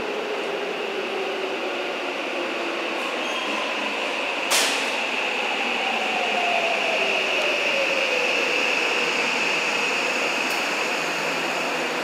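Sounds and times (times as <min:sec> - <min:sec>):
subway train rumble and whine: 0:00.0 - 0:12.0.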